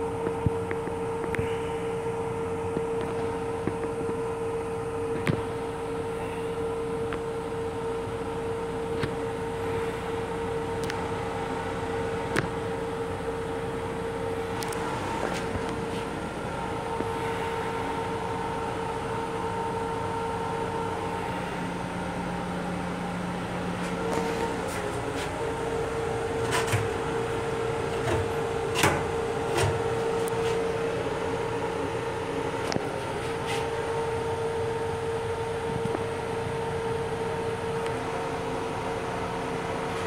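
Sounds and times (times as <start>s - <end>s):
electric railcar running hum: 0.0s - 40.0s.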